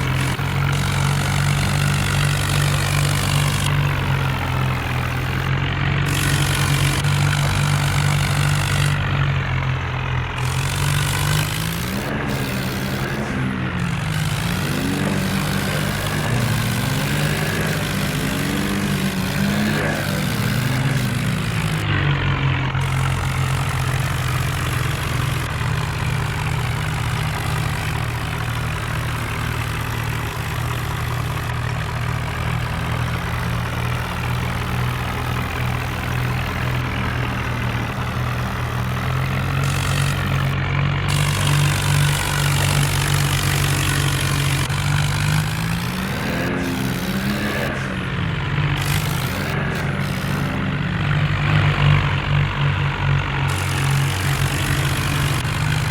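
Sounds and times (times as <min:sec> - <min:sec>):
diesel tractor engines running: 0:00.0 - 0:55.9.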